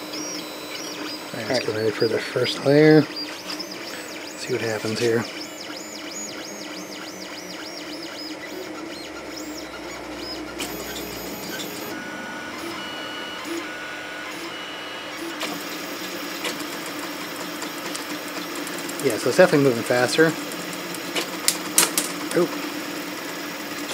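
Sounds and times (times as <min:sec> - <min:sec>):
steady hum: 0:00.0 - 0:21.7
stepper motors whining: 0:00.0 - 0:23.9.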